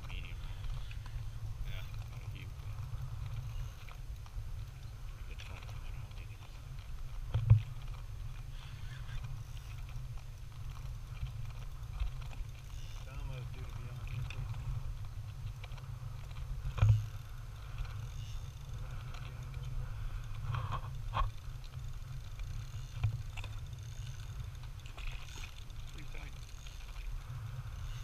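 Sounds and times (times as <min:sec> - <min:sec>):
wind and water rumble: 0:00.0 - 0:28.0.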